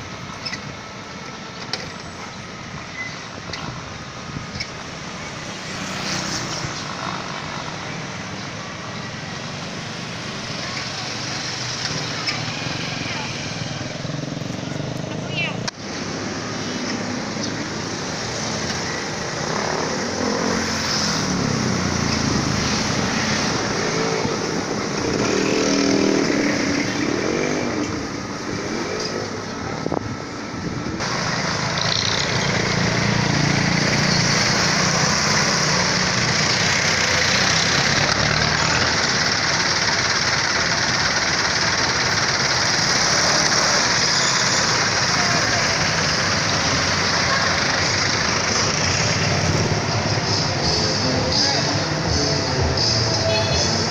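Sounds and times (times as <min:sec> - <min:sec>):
motor vehicles passing: 0:00.0 - 0:53.9
road noise from moving bike: 0:00.0 - 0:53.9.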